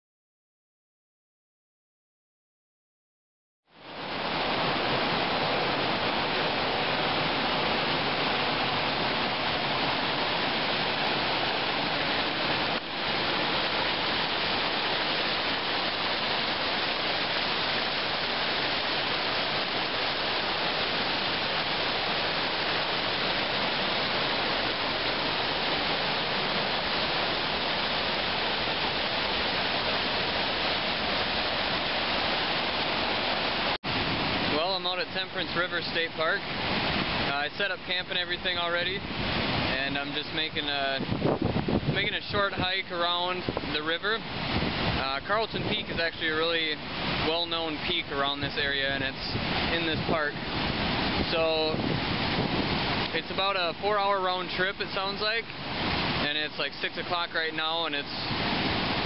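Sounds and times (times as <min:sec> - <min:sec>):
river rushing over rocks: 0:03.8 - 0:59.0.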